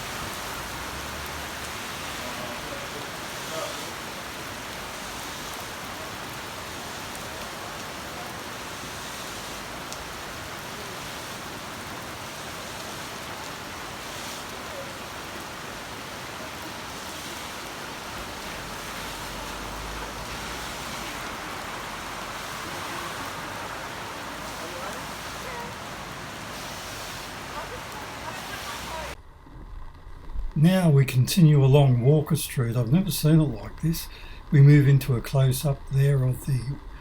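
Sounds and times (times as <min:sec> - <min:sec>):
heavy rain falling: 0:00.0 - 0:29.2, 0:30.4 - 0:37.0.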